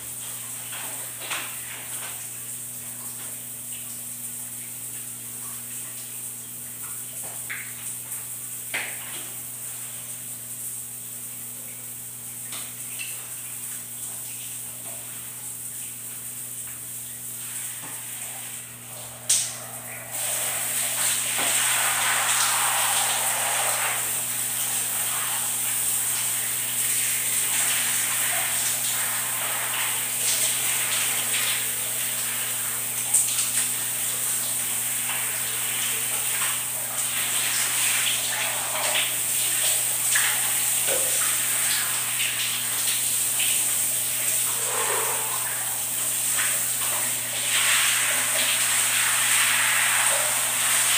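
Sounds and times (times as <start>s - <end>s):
shower water spraying on tiles: 0.0s - 50.9s.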